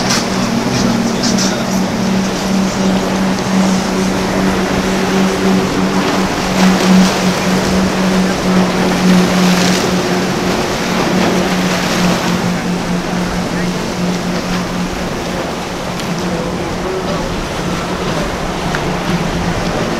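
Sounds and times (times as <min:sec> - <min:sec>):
outboard engines droning: 0:00.0 - 0:19.9
waves and wake splashing: 0:00.0 - 0:19.9.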